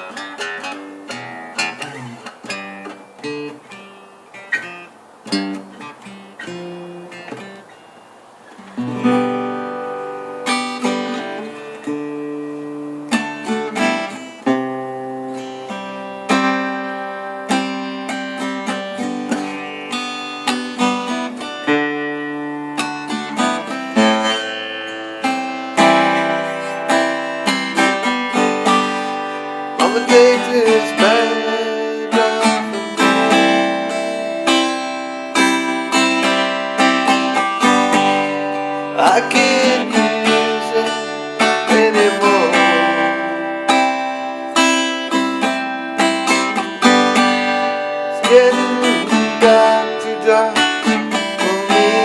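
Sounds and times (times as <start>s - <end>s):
acoustic guitar picked notes: 0.0s - 52.0s
acoustic guitar strummed chords: 0.0s - 52.0s.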